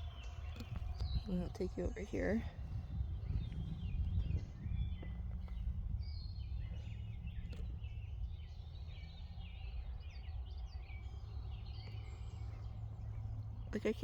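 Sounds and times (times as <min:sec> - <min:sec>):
songbirds chirping and trilling: 0:00.0 - 0:14.0
steady low rumble: 0:00.0 - 0:14.0.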